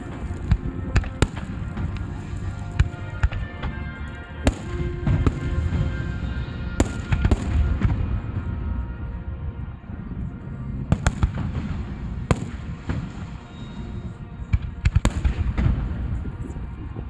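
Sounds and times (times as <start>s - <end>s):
fireworks cracking bangs: 0.0s - 8.6s, 10.9s - 16.6s
fireworks rumble: 0.0s - 17.0s.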